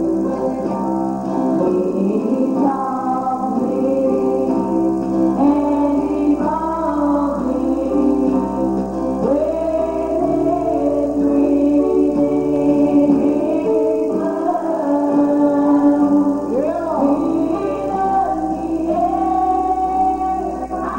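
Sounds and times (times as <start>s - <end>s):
instrumental accompaniment: 0.0s - 20.9s
voices singing gospel: 0.0s - 20.9s.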